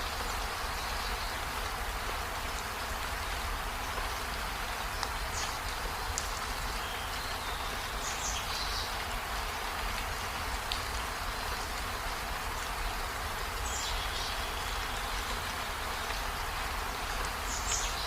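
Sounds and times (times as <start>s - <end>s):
steady rain hissing: 0.0s - 18.0s.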